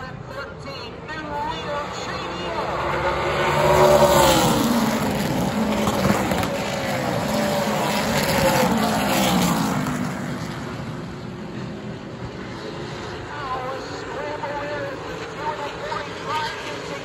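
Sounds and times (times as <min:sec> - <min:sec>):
race car engines passing by: 0:00.0 - 0:17.0.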